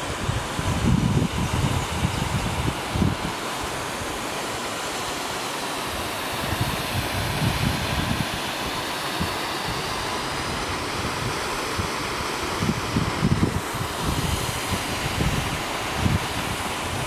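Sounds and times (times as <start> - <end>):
waterfall rushing: 0.0 - 17.0
wind buffeting microphone: 0.1 - 4.2, 6.2 - 17.0.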